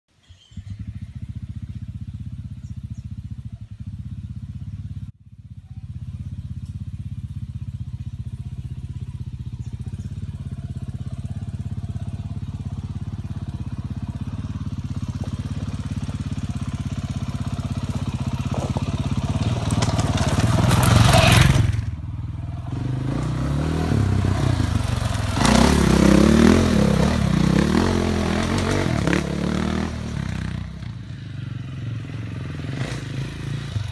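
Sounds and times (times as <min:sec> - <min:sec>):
dirt bike engine revving: 0:05.8 - 0:33.9.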